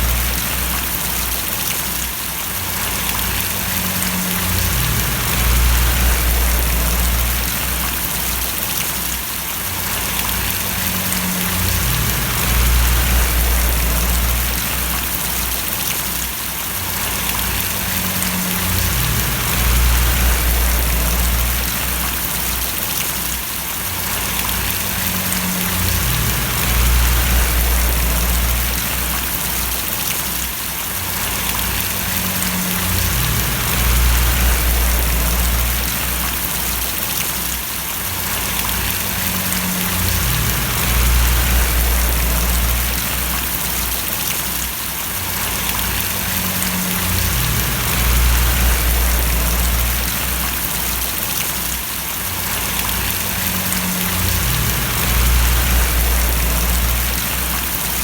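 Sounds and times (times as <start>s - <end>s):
low rumble: 0.0s - 1.3s, 2.8s - 8.6s, 9.9s - 15.8s, 17.0s - 22.7s, 24.1s - 30.0s, 31.2s - 37.0s, 38.4s - 44.3s, 45.4s - 51.2s, 52.5s - 58.0s
rain splashing: 0.0s - 58.0s.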